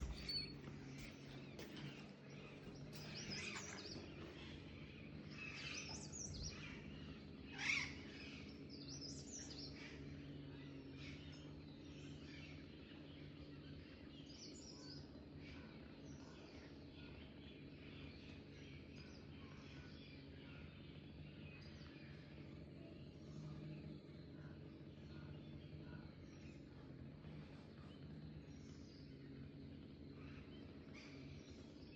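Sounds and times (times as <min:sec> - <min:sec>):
faint bird chirping: 0:00.0 - 0:31.9
low background hum: 0:00.0 - 0:31.9.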